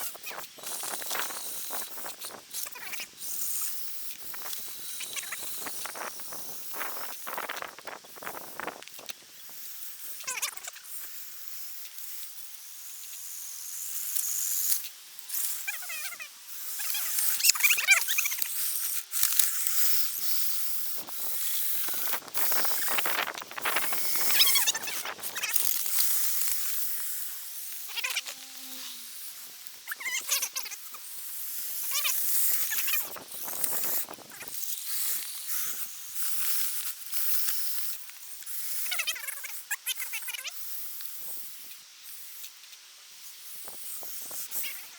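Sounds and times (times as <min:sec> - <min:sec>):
electric motors whining: 0:00.0 - 0:37.4.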